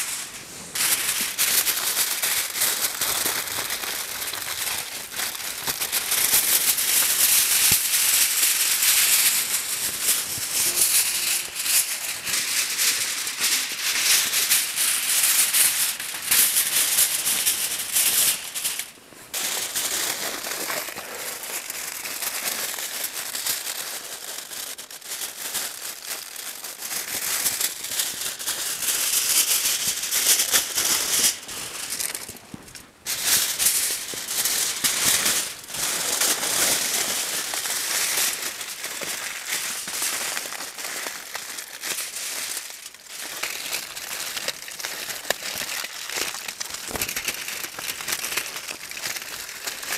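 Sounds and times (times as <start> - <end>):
crinkling and rustling: 0.0 - 49.9.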